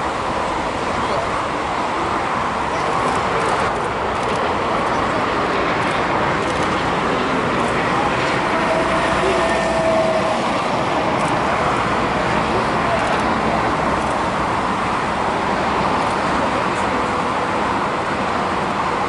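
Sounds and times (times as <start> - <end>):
jet engine rumble and hiss: 0.0 - 19.0.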